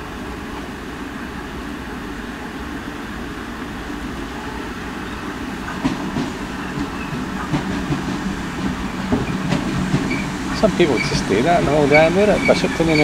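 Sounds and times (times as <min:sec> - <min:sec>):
electric train approaching: 0:00.0 - 0:13.0.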